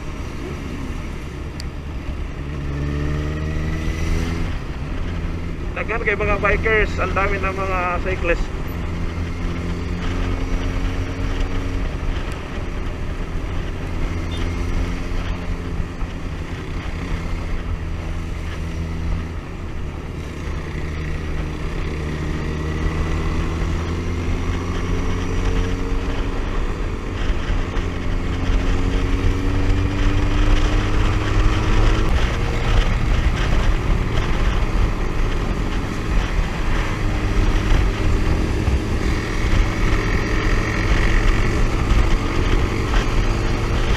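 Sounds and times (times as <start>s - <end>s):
motorcycle engine accelerating: 0.0s - 43.9s
wind rush: 0.0s - 43.9s.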